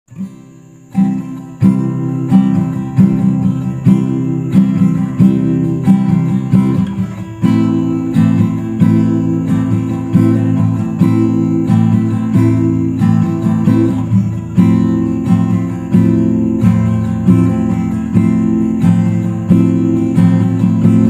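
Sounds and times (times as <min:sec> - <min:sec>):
acoustic guitar strumming chords: 0:00.1 - 0:21.0.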